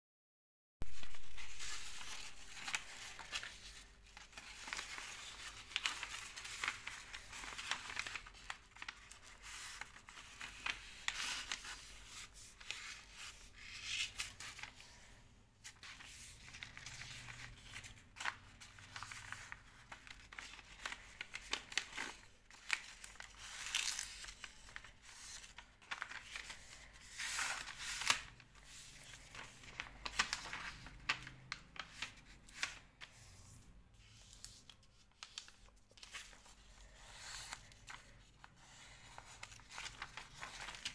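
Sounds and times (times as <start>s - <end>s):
paper rustling and crinkling: 0.8s - 40.9s.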